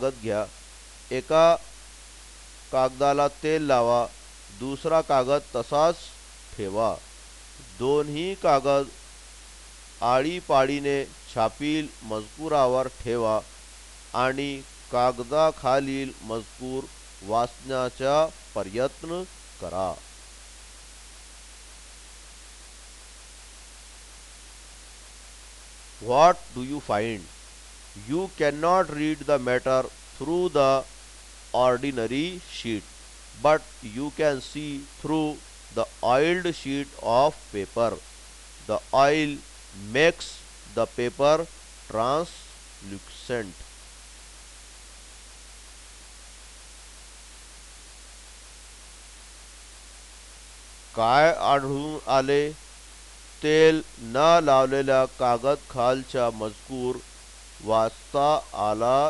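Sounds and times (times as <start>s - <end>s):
constant low hum: 0.0s - 59.0s
recording background hiss: 0.0s - 59.0s.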